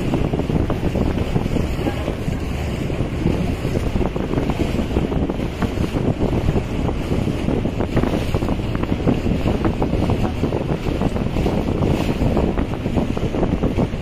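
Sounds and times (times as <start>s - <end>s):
outboard engines: 0.0s - 14.0s
water slapping against hull: 0.0s - 14.0s
wind buffeting microphone: 0.0s - 14.0s.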